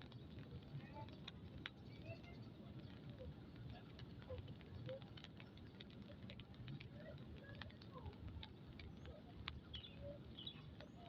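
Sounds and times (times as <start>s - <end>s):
light rain pattering: 0.0s - 11.0s.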